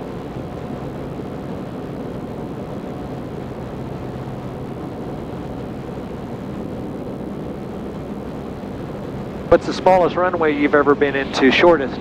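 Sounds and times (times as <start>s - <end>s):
light aircraft engine droning: 0.0s - 12.0s
low hum: 0.0s - 12.0s.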